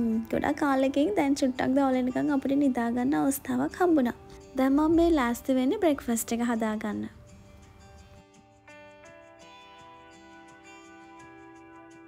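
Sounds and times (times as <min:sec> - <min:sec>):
soft music with ringing notes: 0:00.0 - 0:12.0.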